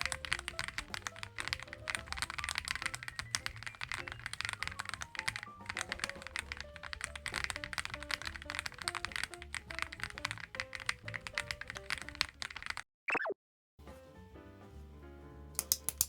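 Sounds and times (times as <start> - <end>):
background music: 0.0 - 12.7, 13.8 - 16.0
fast mechanical keyboard typing: 0.0 - 12.8, 15.6 - 16.0.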